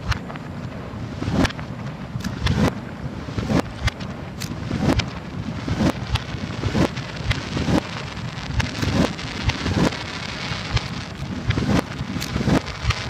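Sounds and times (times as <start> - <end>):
reversed firework booms: 0.0 - 13.0
rumbling hiss: 0.0 - 13.0.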